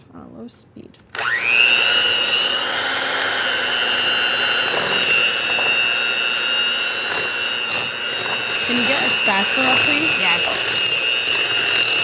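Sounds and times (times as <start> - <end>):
electric hand mixer whine: 1.1 - 12.0.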